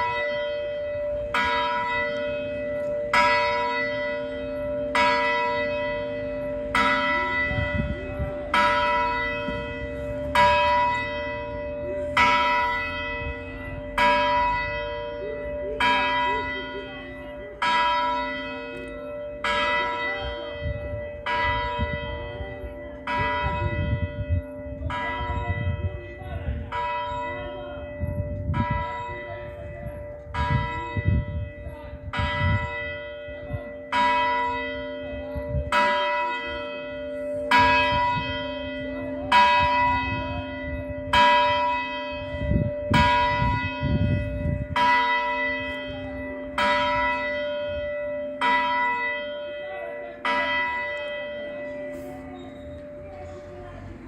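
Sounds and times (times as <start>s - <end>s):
church bell ringing: 0.0s - 54.0s.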